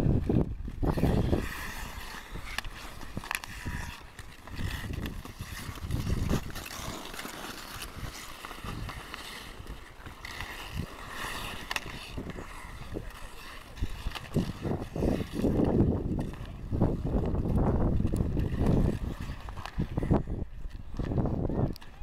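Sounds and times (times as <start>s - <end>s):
skate blades scraping ice: 0.0s - 22.0s
wind rumbling on microphone: 0.0s - 22.0s
hockey sticks and puck clacking: 0.1s - 22.0s.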